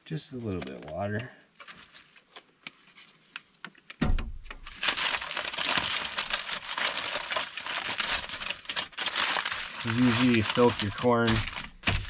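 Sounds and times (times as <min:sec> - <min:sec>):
aluminium foil crinkling: 0:01.0 - 0:04.0, 0:04.6 - 0:12.0.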